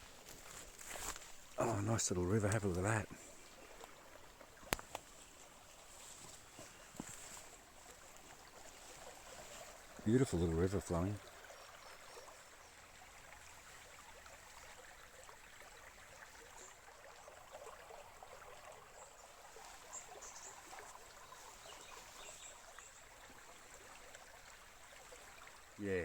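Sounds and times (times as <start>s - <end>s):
stream trickling: 0.0s - 26.0s.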